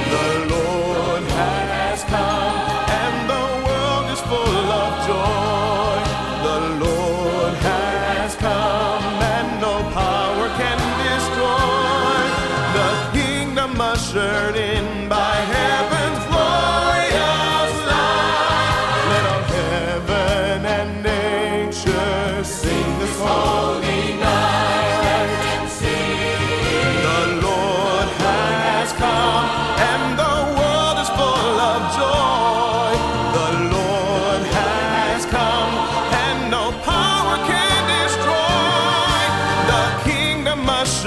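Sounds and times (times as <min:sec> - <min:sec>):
choir singing: 0:00.0 - 0:41.0
orchestra playing: 0:00.0 - 0:41.0.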